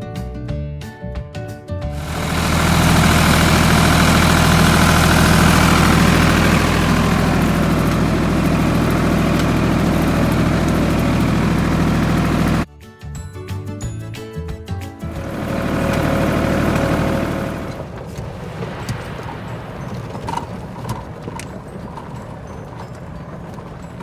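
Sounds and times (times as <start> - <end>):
engine idling: 2.0 - 12.6, 15.1 - 24.0.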